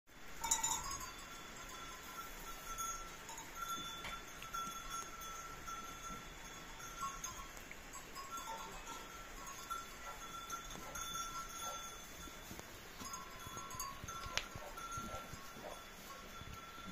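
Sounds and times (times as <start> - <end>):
high ringing tones: 0.3 - 16.9
goats munching: 2.3 - 16.9.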